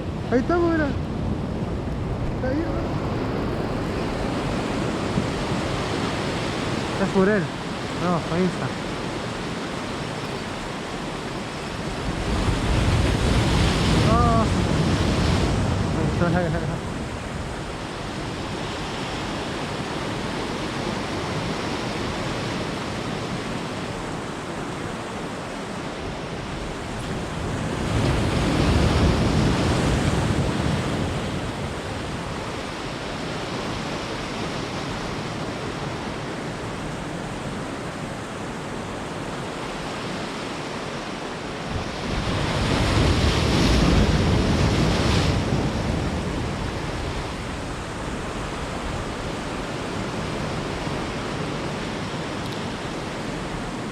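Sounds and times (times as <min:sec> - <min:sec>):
wind on microphone: 0:00.0 - 0:24.4, 0:25.9 - 0:39.3, 0:41.6 - 0:53.9
ocean surf washing in: 0:00.0 - 0:53.9
waves breaking: 0:00.0 - 0:53.9.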